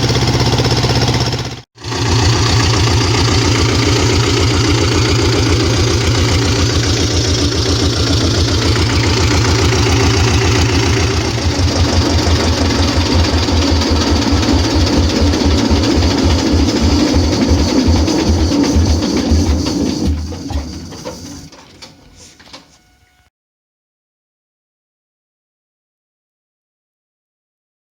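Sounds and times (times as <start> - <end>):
tractor diesel engine running: 0.0 - 23.1.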